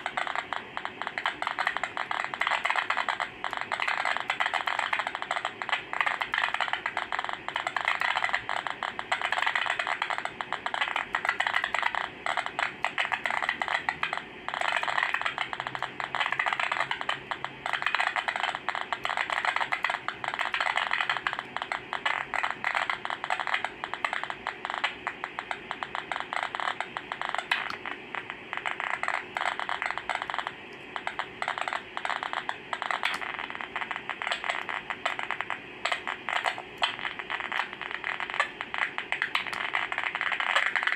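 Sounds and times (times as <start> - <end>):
radio static hiss and crackle: 0.0 - 40.9.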